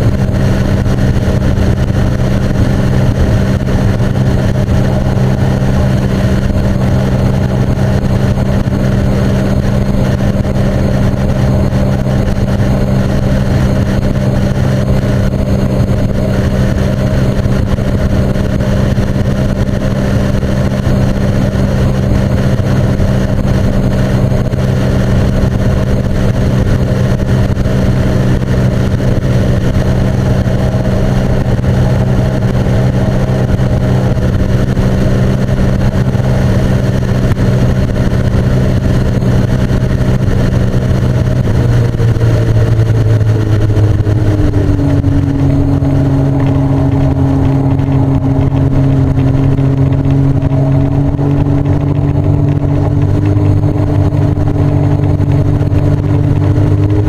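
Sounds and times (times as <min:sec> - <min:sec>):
watercraft engine droning: 0:00.0 - 0:57.0.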